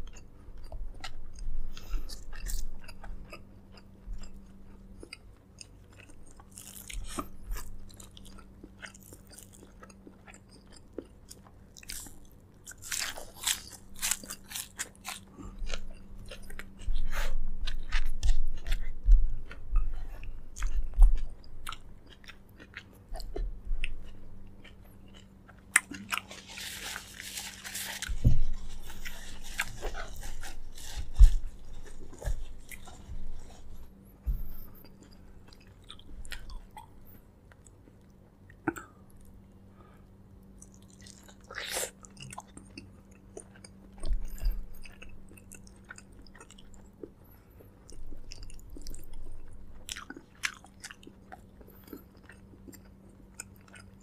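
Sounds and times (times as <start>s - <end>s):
chewing and biting: 0.0s - 38.9s, 40.6s - 54.0s
crunch: 0.0s - 39.2s, 40.6s - 54.0s.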